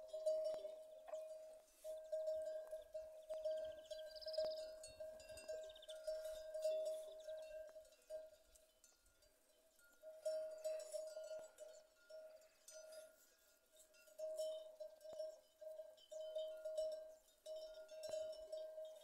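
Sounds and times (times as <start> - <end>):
cowbell clanking: 0.0 - 19.0.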